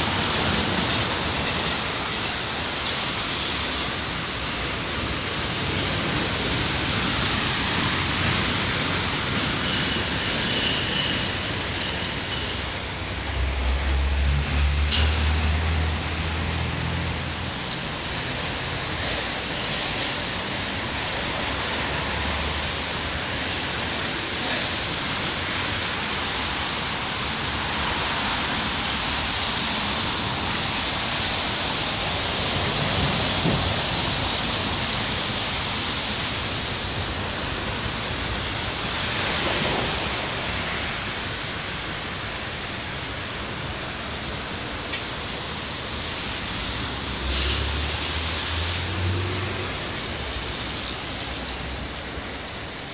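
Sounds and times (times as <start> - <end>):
traffic on wet roads: 0.0 - 52.9.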